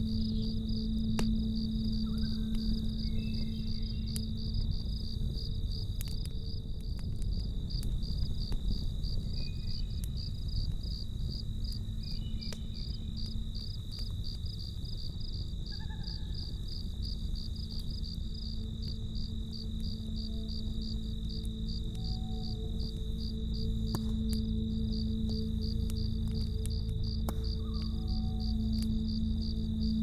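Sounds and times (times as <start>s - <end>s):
crickets chirping: 0.0s - 30.0s
fire crackles: 0.0s - 30.0s
soft held music tone: 0.0s - 30.0s.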